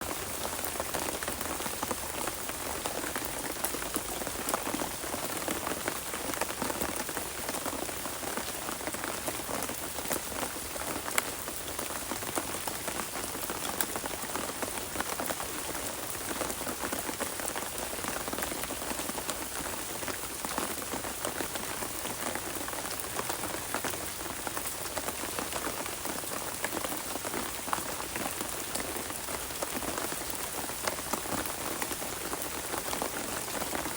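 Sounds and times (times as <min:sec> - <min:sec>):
rain falling: 0:00.0 - 0:33.9
raindrops pattering on surfaces: 0:00.0 - 0:33.9.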